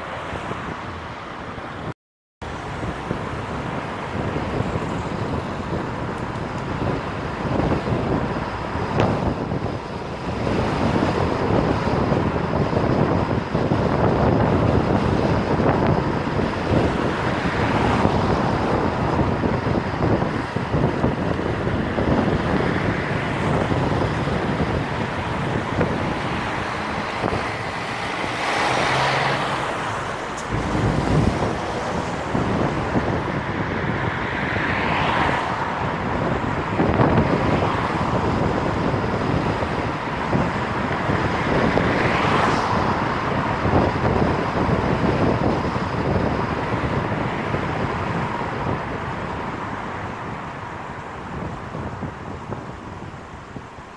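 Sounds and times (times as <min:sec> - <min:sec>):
road and tyre noise: 0:00.0 - 0:53.9
wind buffeting microphone: 0:00.0 - 0:53.9.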